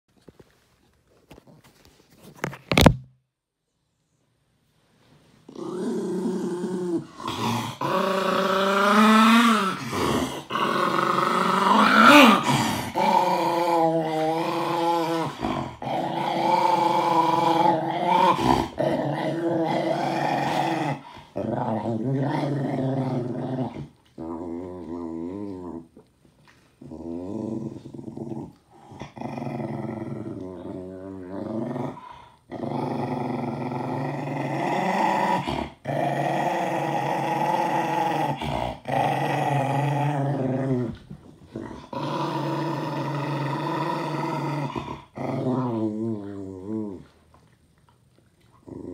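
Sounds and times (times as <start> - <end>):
dog growling and grumbling: 5.5 - 26.1, 26.7 - 47.2, 48.6 - 48.9.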